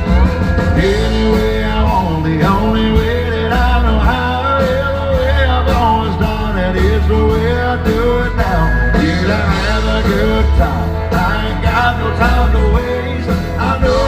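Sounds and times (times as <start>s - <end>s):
deep bass line: 0.0s - 14.0s
drums keeping a steady beat: 0.0s - 14.0s
live country band music: 0.0s - 14.0s.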